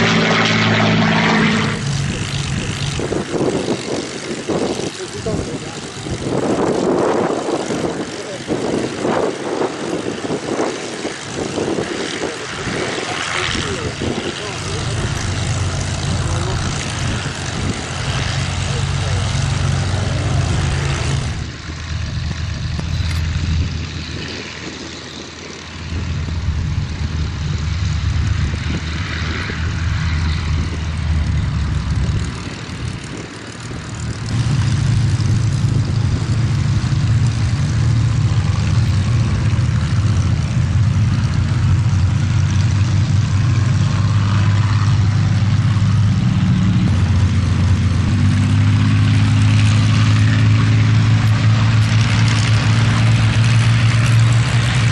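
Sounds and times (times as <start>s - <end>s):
radial aircraft engines droning: 0.0s - 54.9s.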